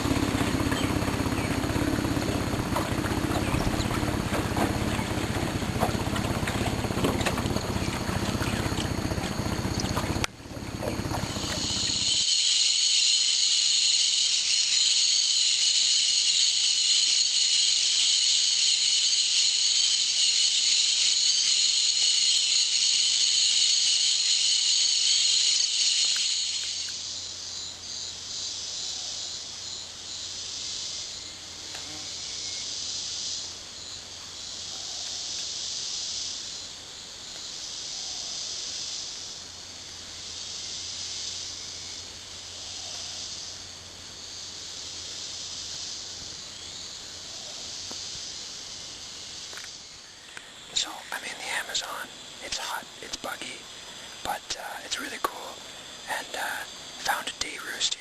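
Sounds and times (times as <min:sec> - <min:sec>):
insect chorus buzzing: 0:00.0 - 0:58.0.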